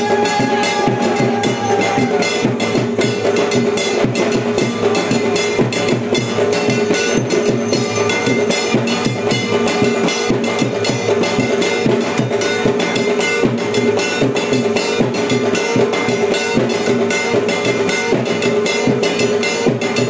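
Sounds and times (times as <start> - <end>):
music with fast drumming: 0.0 - 20.0.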